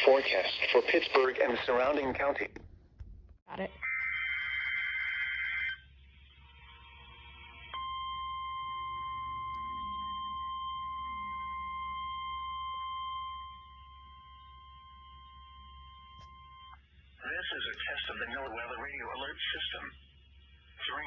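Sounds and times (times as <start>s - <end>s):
weather radio alarm tone: 3.8s - 21.0s.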